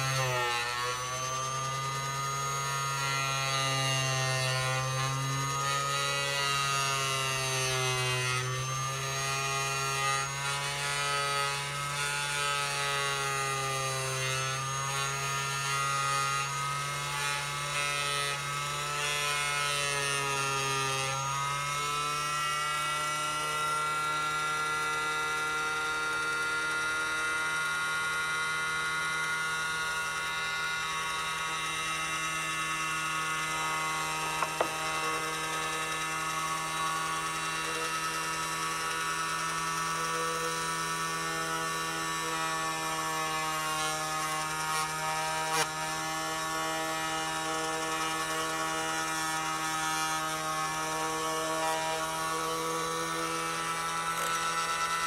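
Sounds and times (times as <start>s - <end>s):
oscillating multi-tool cutting wood: 0.0s - 55.0s.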